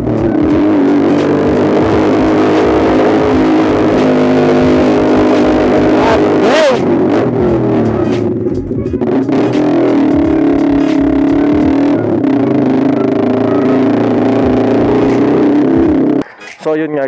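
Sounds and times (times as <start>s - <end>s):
loud motorcycle engine revving: 0.0s - 16.2s.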